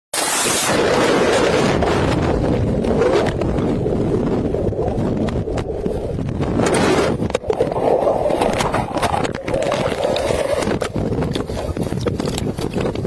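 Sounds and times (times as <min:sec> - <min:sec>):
rushing and buffeting noise: 0:00.2 - 0:13.0.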